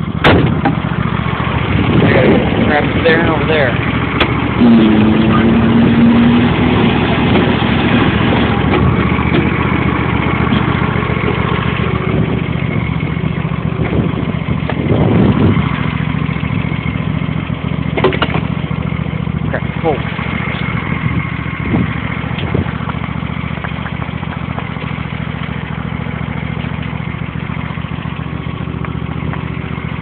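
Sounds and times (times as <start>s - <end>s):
lawn tractor engine running: 0.0s - 30.0s.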